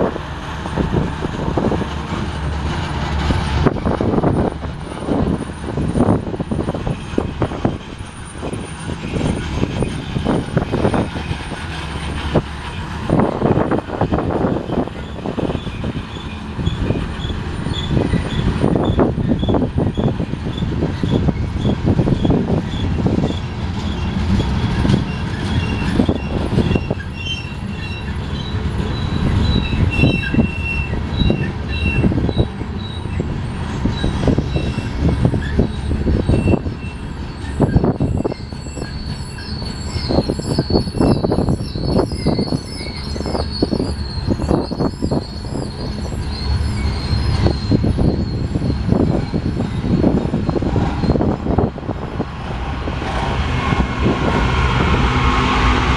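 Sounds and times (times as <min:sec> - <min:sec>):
train wheels rumbling and clanking: 0:00.0 - 0:55.9
high-pitched wheel flange squeal: 0:03.1 - 0:55.9.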